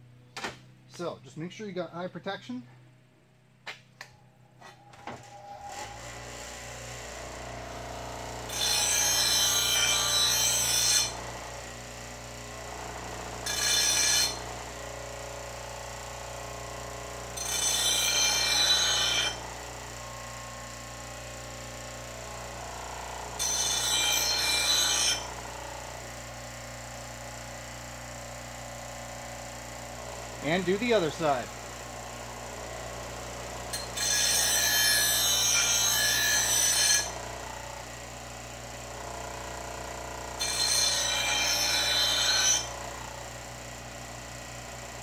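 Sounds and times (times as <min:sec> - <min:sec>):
bench grinder motor humming: 0:05.6 - 0:45.0.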